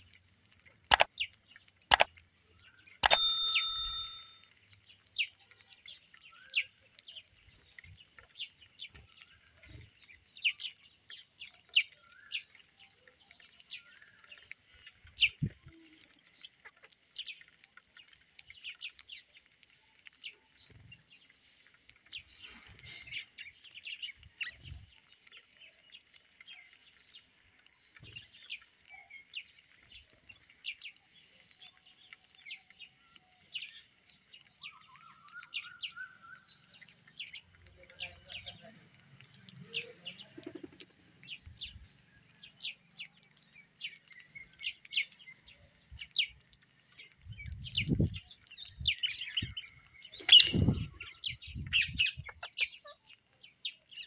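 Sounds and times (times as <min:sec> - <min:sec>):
sparrows chirping: 0:00.0 - 0:54.0.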